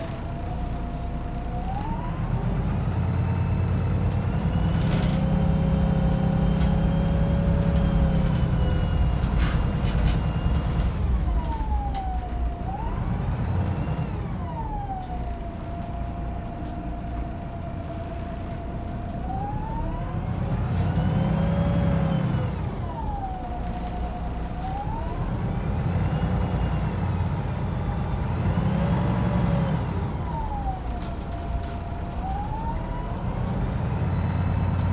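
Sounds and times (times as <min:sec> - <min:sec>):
bus diesel engine: 0:00.0 - 0:34.9
whining drivetrain: 0:00.0 - 0:34.9.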